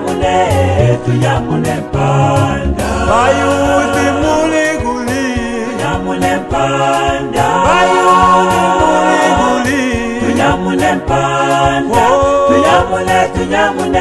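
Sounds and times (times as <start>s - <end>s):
choir holding long notes: 0.0s - 14.0s
steady beat: 0.5s - 13.6s.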